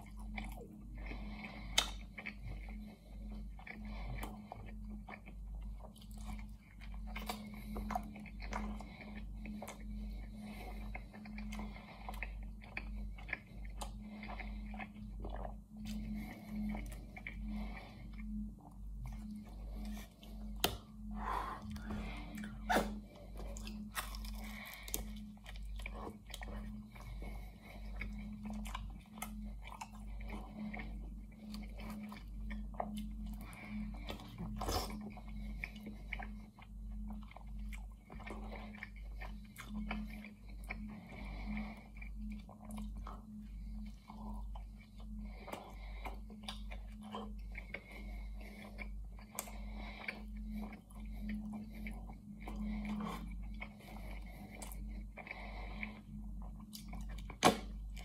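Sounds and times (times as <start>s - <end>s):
wet chewing mouth sounds: 0.0s - 58.0s.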